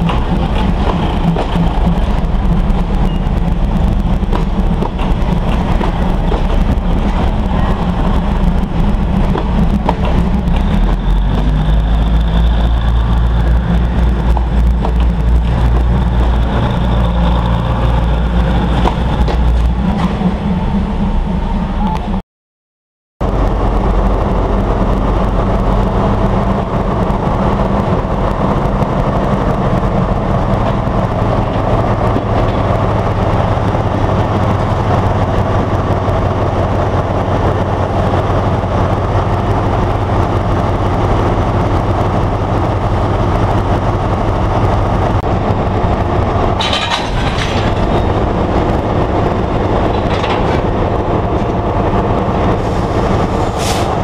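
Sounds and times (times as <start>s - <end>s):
diesel locomotive droning: 0.0s - 22.2s, 23.2s - 54.0s.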